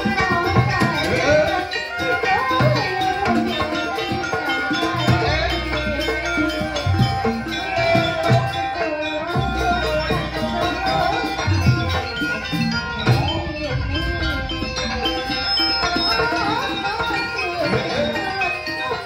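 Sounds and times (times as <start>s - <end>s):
hand drums beating: 0.0s - 19.0s
wavering melody line: 0.0s - 19.0s.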